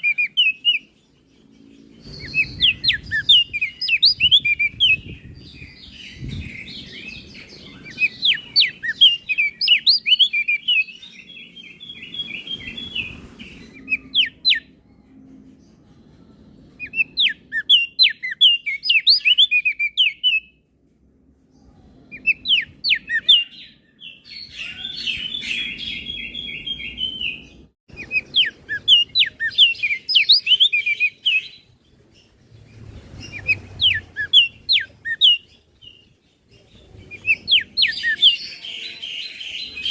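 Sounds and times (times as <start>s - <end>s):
bird chirping and trilling: 0.0s - 20.6s, 21.5s - 39.9s.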